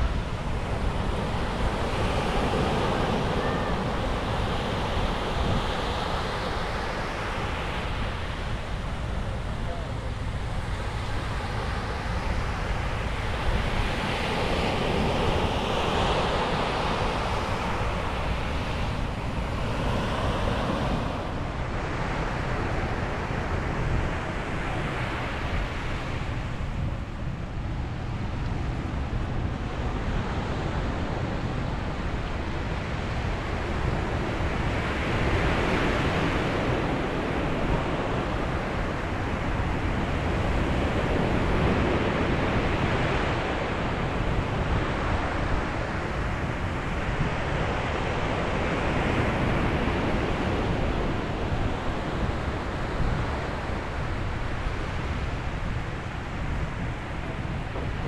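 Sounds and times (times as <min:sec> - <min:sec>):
ocean waves breaking on beach: 0:00.0 - 0:58.0
wind rumble on microphone: 0:00.0 - 0:58.0.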